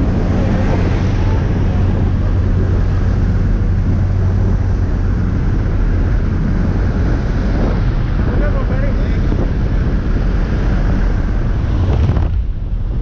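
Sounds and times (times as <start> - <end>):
propeller engine humming: 0.0 - 13.0
wind rushing: 0.0 - 13.0.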